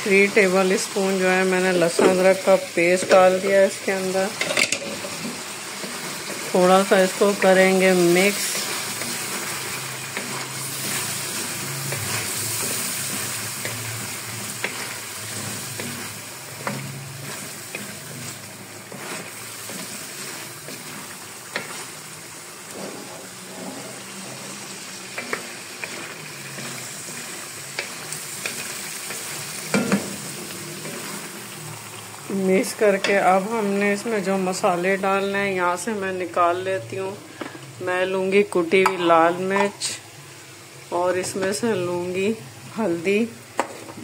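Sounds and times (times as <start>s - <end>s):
chicken sizzling in hot oil: 0.0s - 44.0s.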